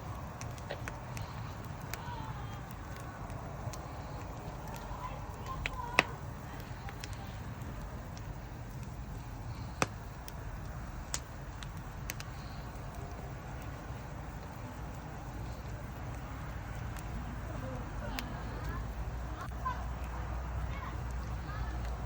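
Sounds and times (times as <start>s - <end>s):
campfire burning: 0.0s - 22.0s
wood crackling and popping: 0.0s - 22.0s.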